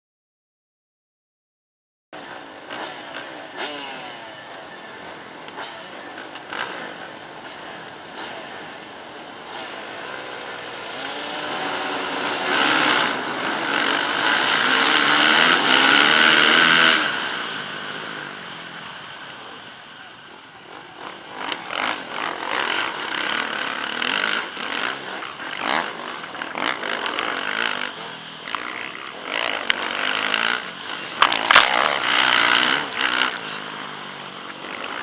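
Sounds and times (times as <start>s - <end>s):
motocross bike engines revving: 2.2s - 35.0s.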